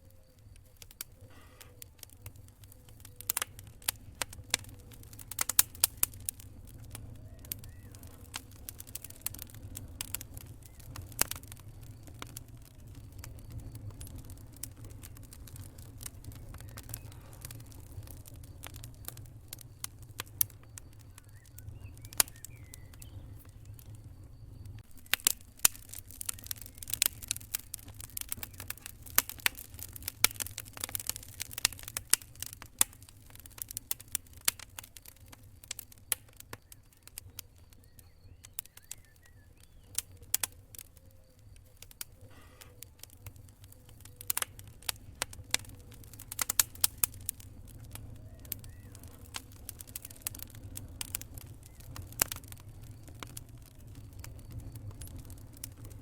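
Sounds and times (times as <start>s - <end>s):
low rumble of fire: 0.0s - 56.0s
wood fire crackling and popping: 0.0s - 56.0s.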